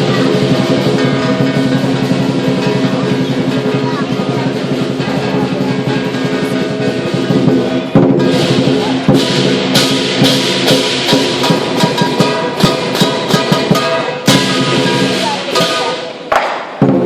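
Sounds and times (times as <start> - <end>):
drum and cymbal strikes: 0.0 - 17.0.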